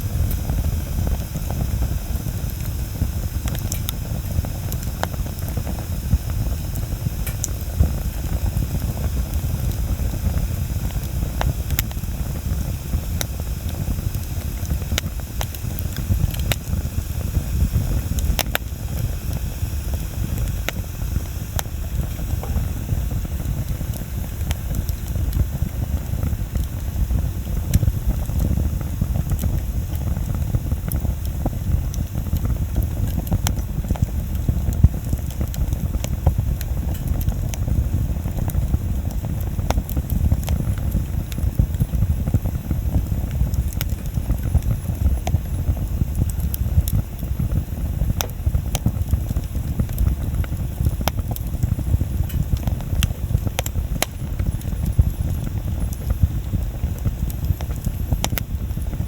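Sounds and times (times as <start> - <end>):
bonfire crackling: 0.0 - 59.0.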